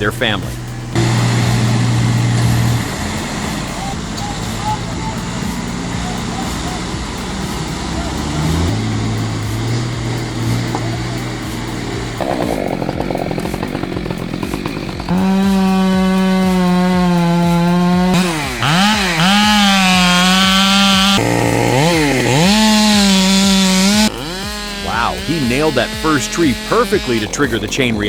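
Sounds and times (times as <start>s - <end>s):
chainsaw cutting: 0.0s - 28.0s.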